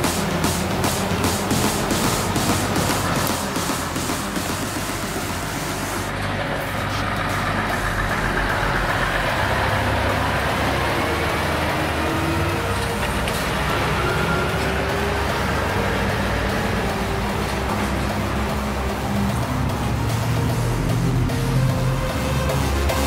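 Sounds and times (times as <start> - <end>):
truck engine driving past: 0.0 - 23.0.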